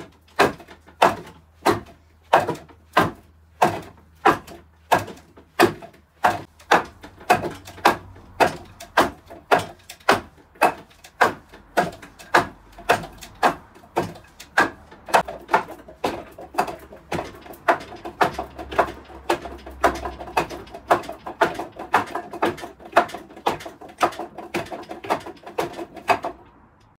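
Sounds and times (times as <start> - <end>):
wooden dummy clacks: 0.0 - 26.9.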